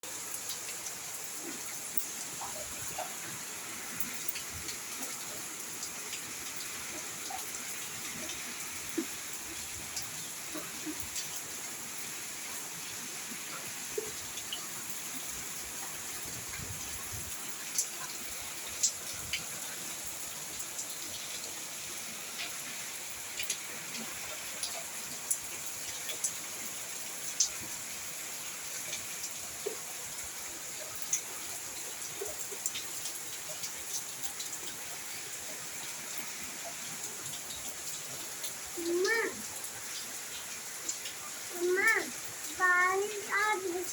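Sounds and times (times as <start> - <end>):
raindrops ticking: 0.0 - 21.6, 28.7 - 43.9
steady rain: 0.0 - 43.9.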